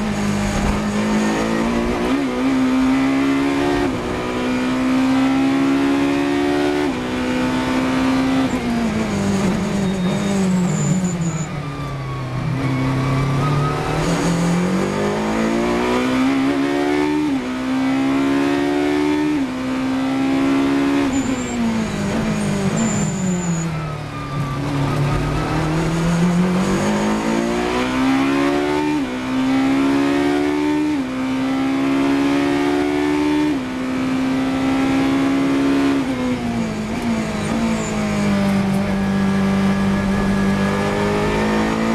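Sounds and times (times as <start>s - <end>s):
racing car engine revving: 0.0s - 10.5s, 12.9s - 23.1s, 24.6s - 41.9s.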